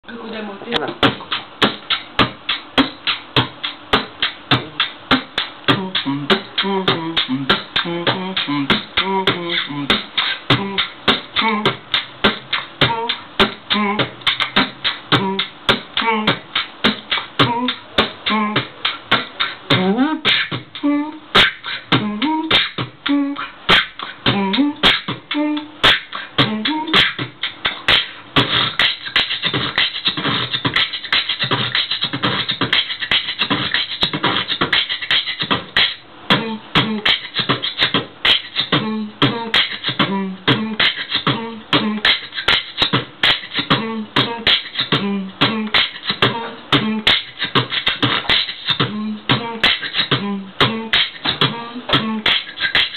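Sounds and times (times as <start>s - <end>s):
boy beatboxing: 0.1s - 52.9s.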